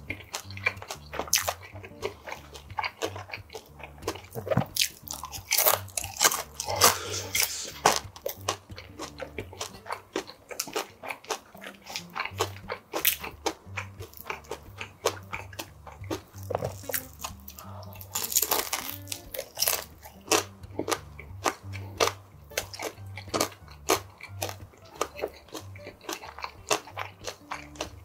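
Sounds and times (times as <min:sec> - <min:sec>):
crispy food crunching: 0:00.0 - 0:28.0
wet mouth clicks: 0:00.0 - 0:28.0.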